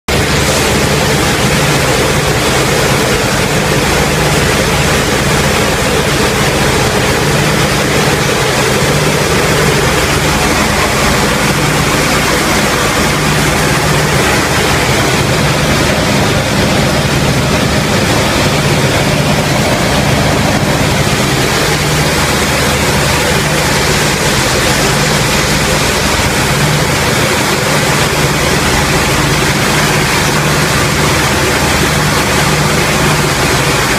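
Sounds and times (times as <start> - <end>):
piston engines droning: 0.1 - 33.9
loud wind rush: 0.2 - 31.0.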